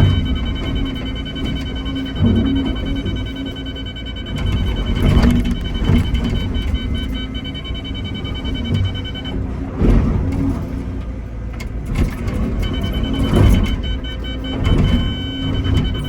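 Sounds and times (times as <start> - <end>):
excavator engine rumble: 0.0 - 16.0.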